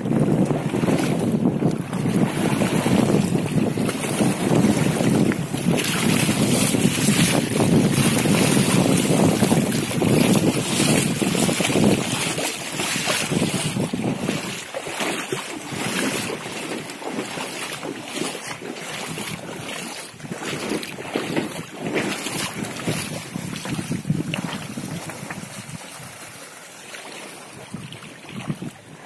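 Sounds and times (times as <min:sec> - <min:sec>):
wind gusting on microphone: 0:00.0 - 0:26.4, 0:27.5 - 0:29.0
floodwater rushing: 0:00.0 - 0:29.0.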